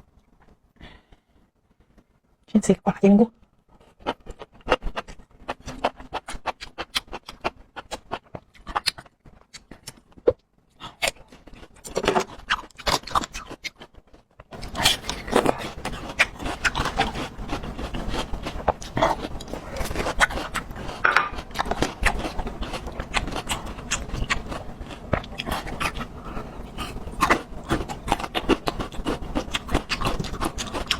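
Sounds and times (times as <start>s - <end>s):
crunchy chewing: 3.8s - 30.9s.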